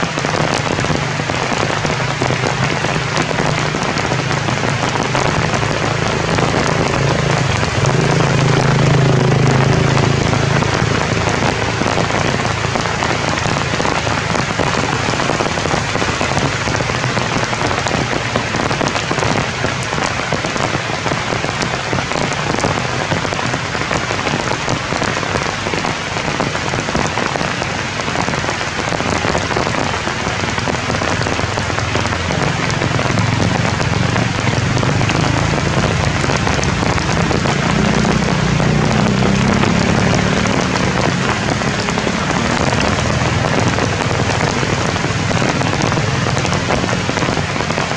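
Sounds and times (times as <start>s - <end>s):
heavy rain on leaves: 0.0s - 47.9s.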